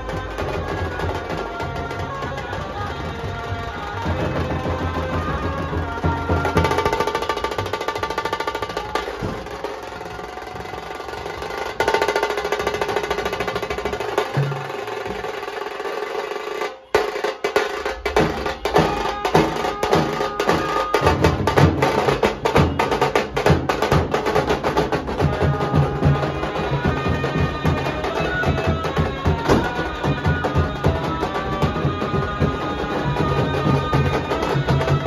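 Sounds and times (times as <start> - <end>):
barrel drums beaten with sticks: 4.0 - 35.0.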